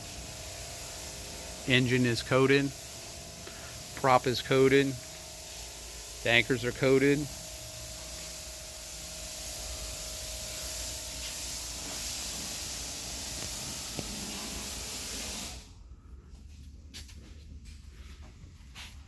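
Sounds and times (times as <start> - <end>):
steady hiss: 0.0 - 15.8.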